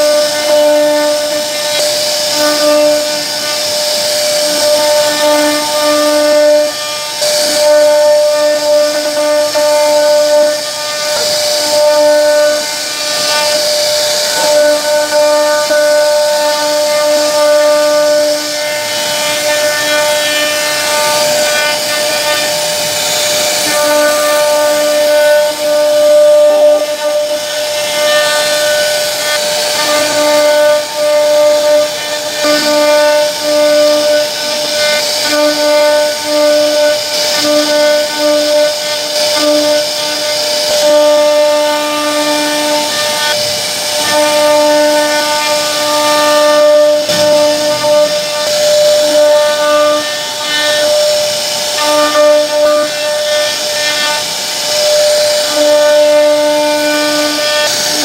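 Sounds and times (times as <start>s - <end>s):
bit cutting wood hiss: 0.0s - 58.0s
router spindle whine: 0.0s - 58.0s.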